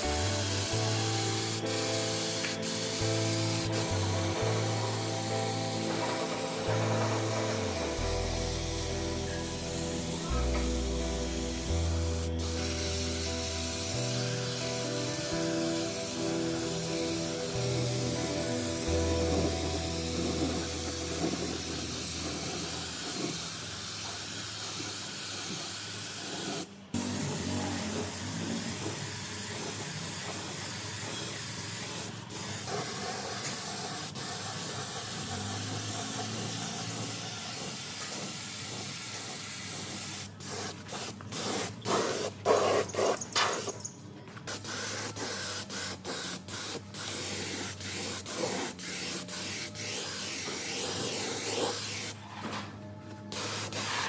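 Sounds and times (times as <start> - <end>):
spray hissing: 0.0 - 52.2, 53.3 - 54.0.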